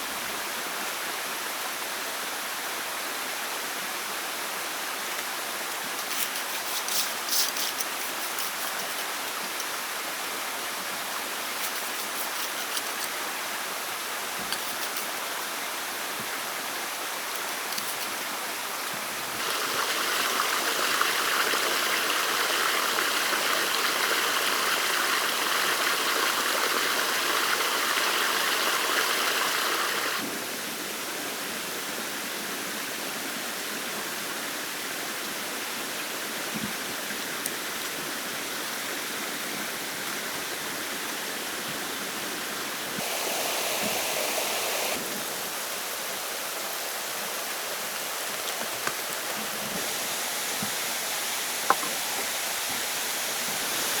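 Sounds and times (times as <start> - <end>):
running water rushing: 0.0 - 30.3, 34.2 - 54.0.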